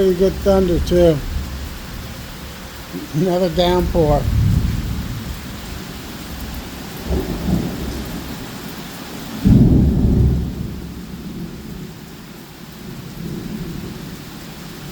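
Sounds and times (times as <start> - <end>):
low rumble of thunder: 0.0 - 2.9, 3.8 - 8.7, 9.4 - 12.2, 12.8 - 14.2
heavy rain pouring: 0.0 - 14.9.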